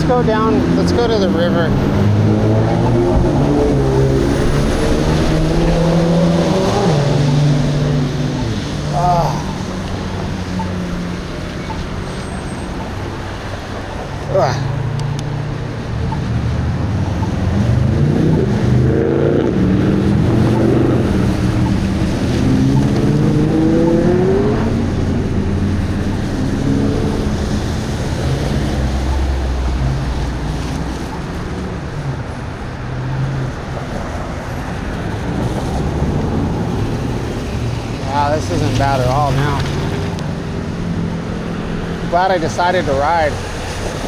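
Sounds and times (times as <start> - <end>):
car engine speeding up: 0.0 - 44.0
traffic rumble: 0.0 - 44.0.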